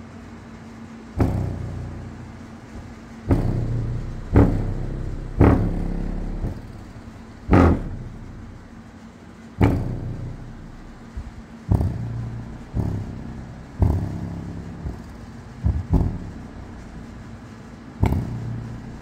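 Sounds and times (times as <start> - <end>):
subwoofer deep bass hits: 1.2 - 8.9, 9.6 - 17.2, 18.0 - 19.0.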